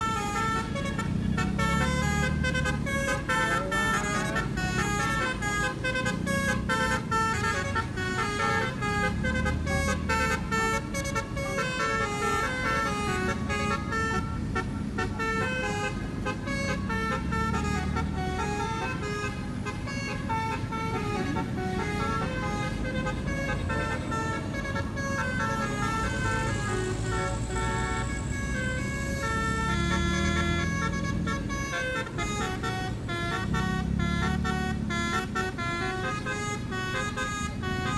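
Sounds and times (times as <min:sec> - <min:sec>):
air horn playing a tune: 0:00.0 - 0:37.9.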